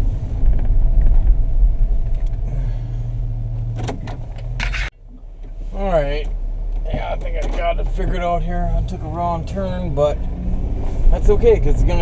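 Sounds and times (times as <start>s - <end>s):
van road and engine rumble: 0.0s - 12.0s.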